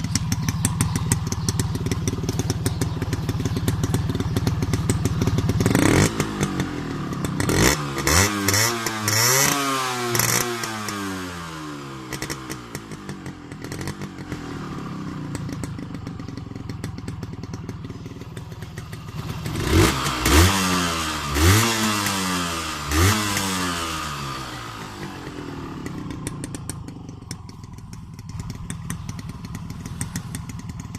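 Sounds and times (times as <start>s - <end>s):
two-stroke engine revving: 0.0s - 30.9s.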